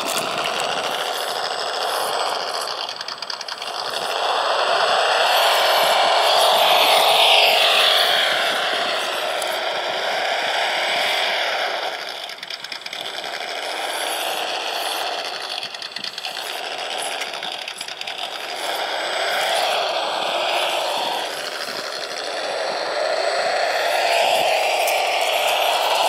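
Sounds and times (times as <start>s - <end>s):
electric motor and gears whining: 0.0s - 26.0s
simulated truck engine sound: 0.0s - 26.0s.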